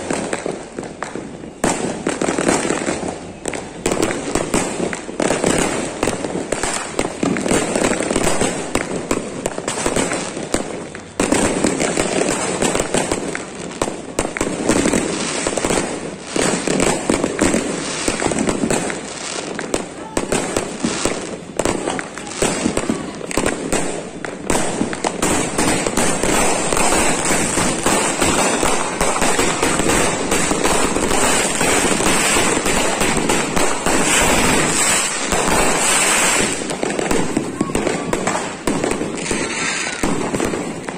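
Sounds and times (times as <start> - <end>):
fireworks and firecrackers popping: 0.0 - 40.9.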